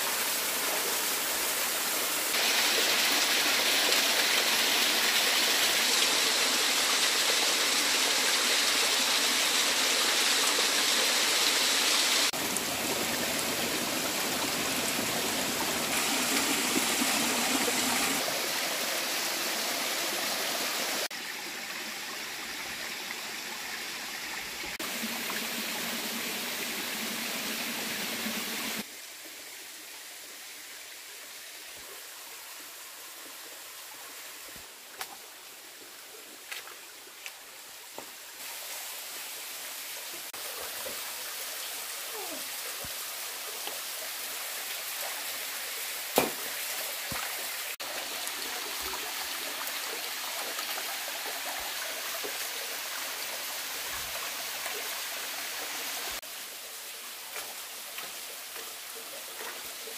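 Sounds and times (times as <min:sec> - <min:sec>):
stream rushing over rocks: 0:00.0 - 0:29.5, 0:31.5 - 0:59.9.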